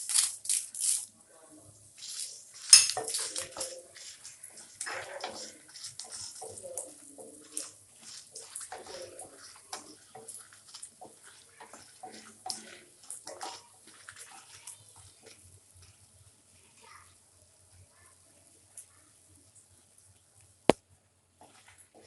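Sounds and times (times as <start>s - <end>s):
chillies sizzling in oil: 0.0s - 20.7s, 21.3s - 22.0s.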